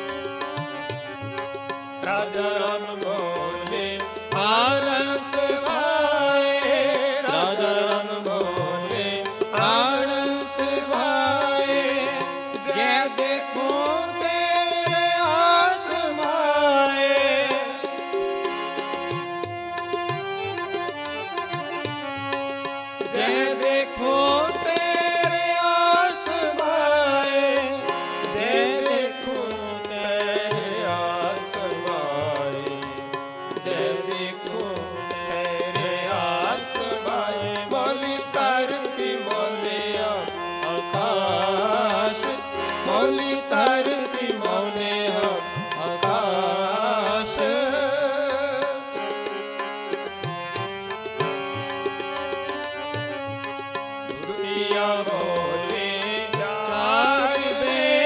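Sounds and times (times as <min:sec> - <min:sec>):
harmoniums: 0:00.0 - 0:58.0
devotional singing: 0:02.0 - 0:18.4, 0:23.0 - 0:49.5, 0:54.1 - 0:58.0.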